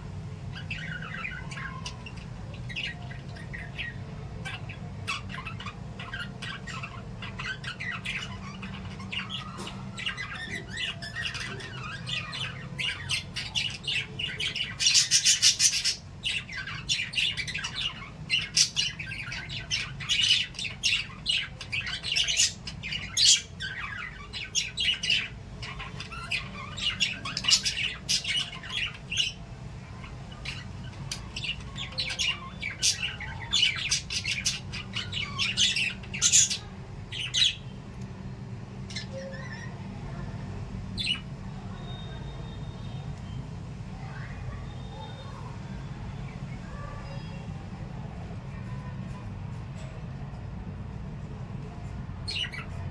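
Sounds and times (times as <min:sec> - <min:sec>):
birds chirping and squawking: 0:00.0 - 0:52.9.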